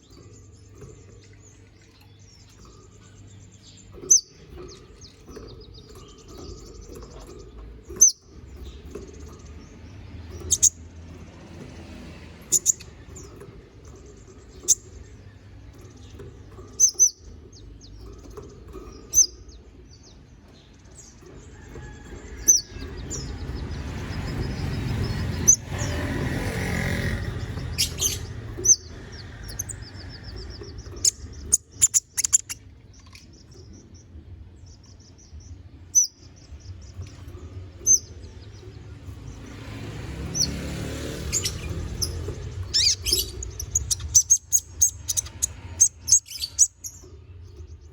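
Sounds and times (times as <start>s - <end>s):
rushing background noise: 0.0s - 47.9s
sunbird chirping and trilling: 0.0s - 47.9s.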